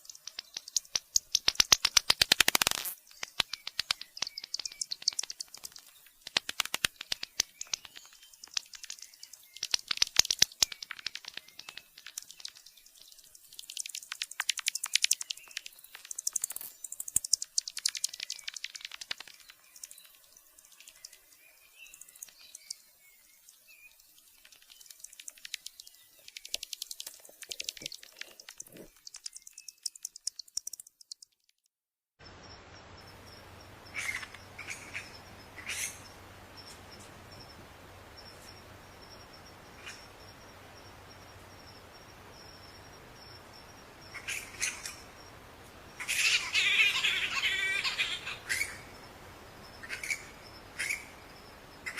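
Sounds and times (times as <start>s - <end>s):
steady hiss: 0.0s - 30.8s, 32.2s - 51.9s
bats squeaking and chittering: 0.0s - 31.4s, 33.3s - 37.5s, 38.2s - 51.9s.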